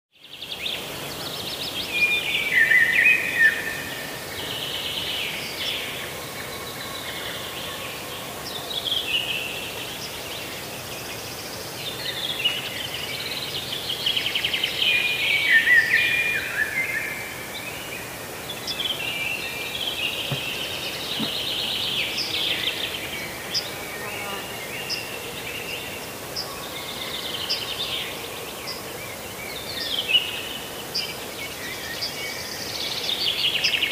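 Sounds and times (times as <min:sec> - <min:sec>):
steady background hiss: 0:00.2 - 0:33.9
birds singing and calling: 0:00.3 - 0:33.9.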